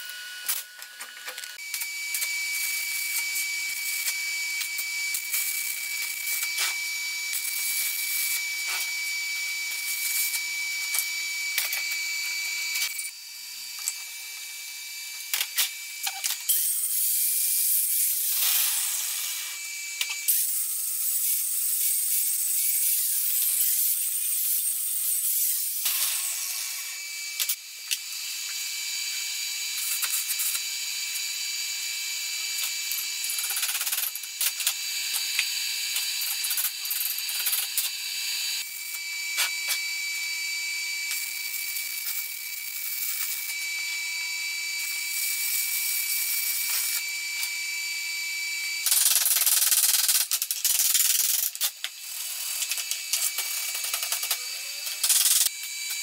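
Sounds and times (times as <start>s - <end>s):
arc welding crackling sizzle: 0.0s - 40.3s, 40.9s - 47.6s, 48.8s - 56.0s.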